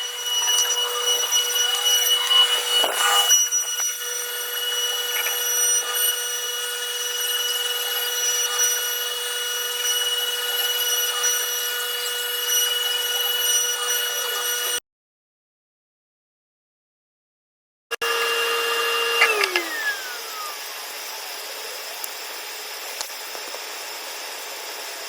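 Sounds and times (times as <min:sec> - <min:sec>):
high-pitched machine whine: 0:00.0 - 0:14.8, 0:18.0 - 0:25.0.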